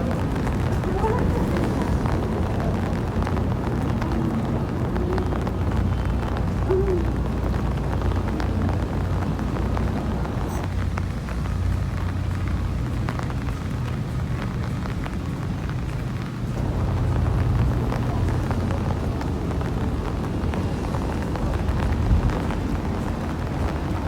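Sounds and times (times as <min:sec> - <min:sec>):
rain drop ticks: 0:00.0 - 0:24.0
steady rain falling: 0:00.0 - 0:24.0
wind buffeting microphone: 0:00.0 - 0:24.0.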